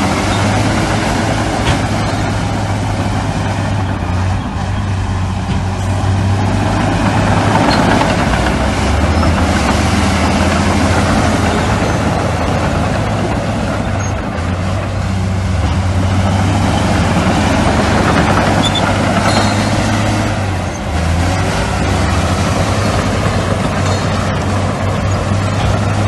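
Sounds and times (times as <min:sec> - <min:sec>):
heavy diesel engines humming: 0:00.0 - 0:26.0.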